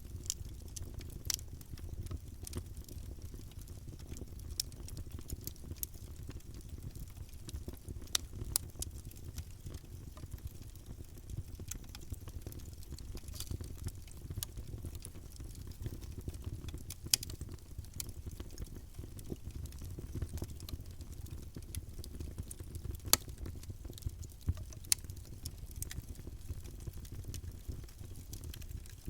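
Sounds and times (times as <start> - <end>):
burning wood crackling and popping: 0.0 - 29.0
campfire flames rumbling: 0.0 - 29.0.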